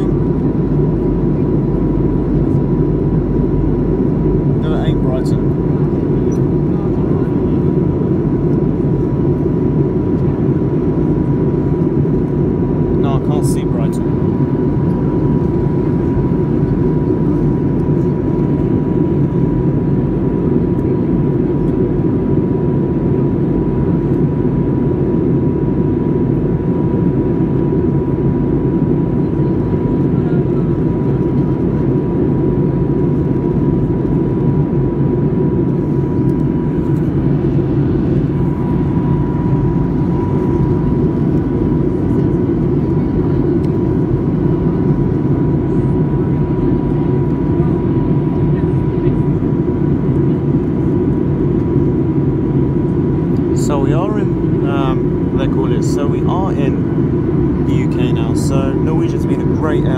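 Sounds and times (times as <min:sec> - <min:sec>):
airplane cabin rumble: 0:00.0 - 0:59.9
thin steady whine: 0:00.0 - 0:59.9.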